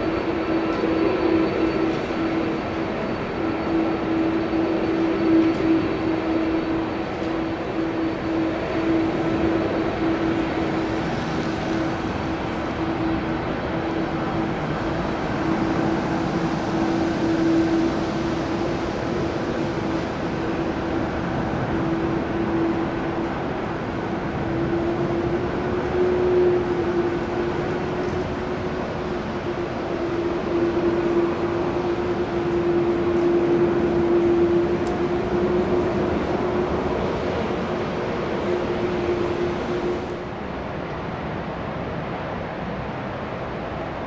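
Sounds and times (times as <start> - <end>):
jet engines whining: 0.0 - 44.0
rush of engine noise: 0.0 - 44.0.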